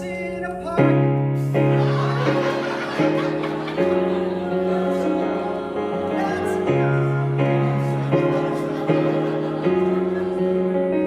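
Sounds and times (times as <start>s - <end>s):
piano playing sustained chords: 0.0s - 11.0s.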